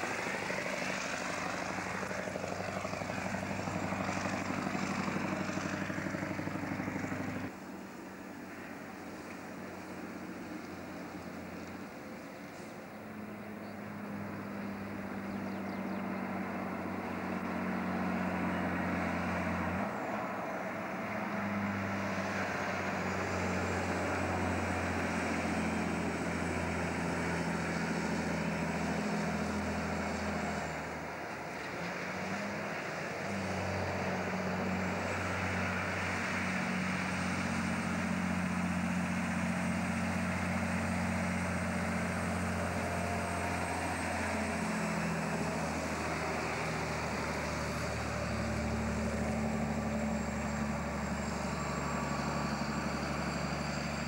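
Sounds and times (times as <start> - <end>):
diesel truck engines droning: 0.0 - 54.0.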